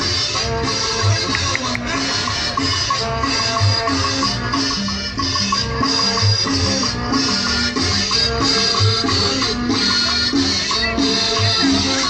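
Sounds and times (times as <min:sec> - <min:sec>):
latin dance music with maracas: 0:00.0 - 0:12.0.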